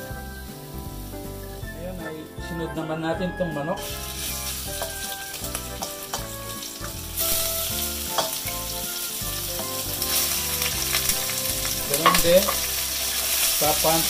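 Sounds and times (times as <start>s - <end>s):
chicken sizzling in hot oil: 0.0s - 2.0s, 3.8s - 14.0s.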